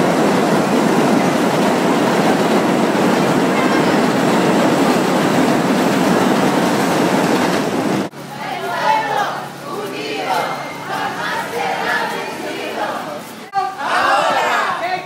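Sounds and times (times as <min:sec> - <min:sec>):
city street noise roar: 0:00.0 - 0:14.9.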